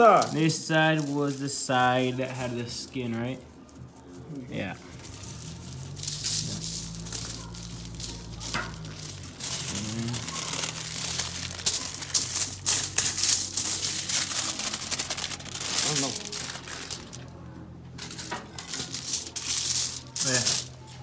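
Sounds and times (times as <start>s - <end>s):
tin foil crinkling: 0.0s - 21.0s.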